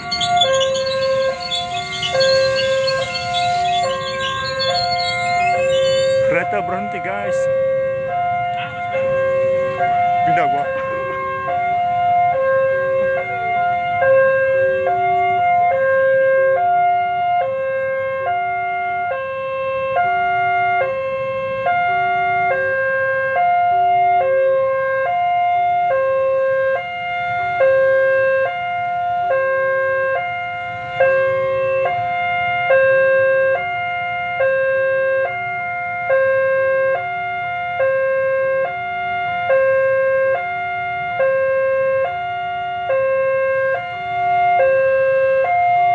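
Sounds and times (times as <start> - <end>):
level crossing electronic alarm: 0.0 - 45.9.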